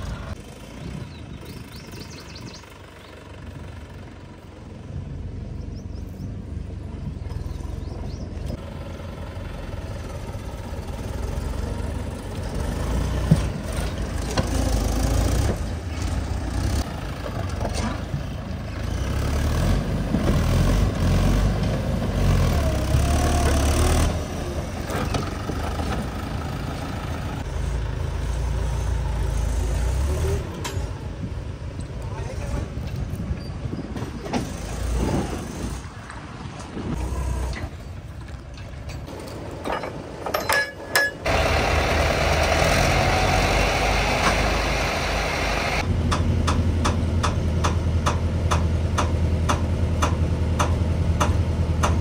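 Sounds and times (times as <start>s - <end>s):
tractor diesel engine running: 0.0s - 36.0s, 36.8s - 52.0s.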